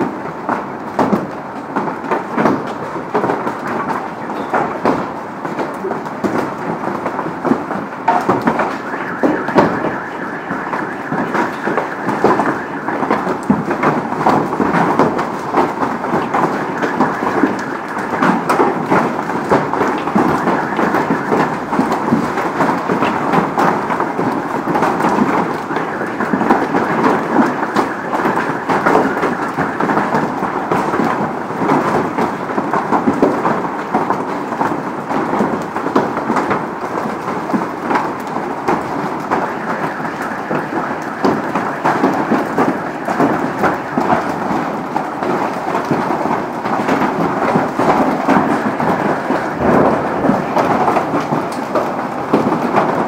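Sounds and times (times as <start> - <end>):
hail pelting street and cars: 0.0 - 53.0.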